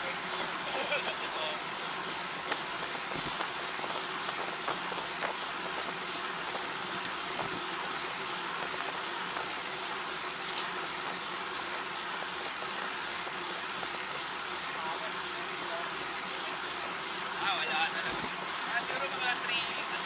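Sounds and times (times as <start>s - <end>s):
vehicle road and wind noise: 0.0s - 20.0s.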